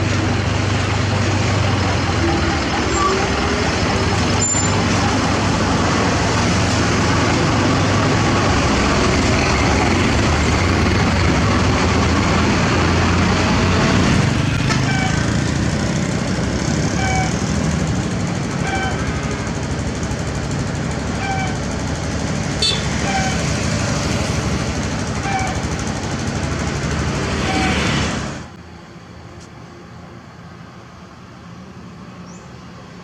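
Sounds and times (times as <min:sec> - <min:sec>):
diesel engine droning: 0:00.0 - 0:32.4.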